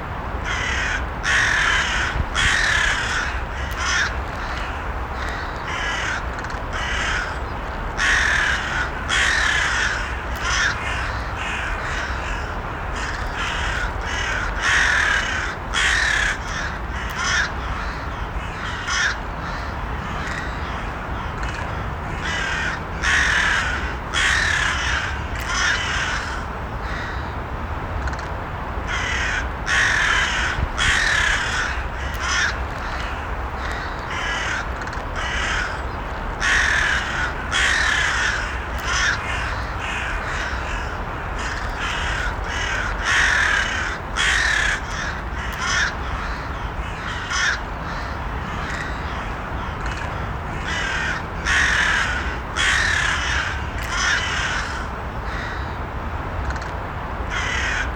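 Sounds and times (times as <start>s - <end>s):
crows cawing: 0.4s - 27.3s, 28.9s - 55.8s, 57.3s - 57.9s.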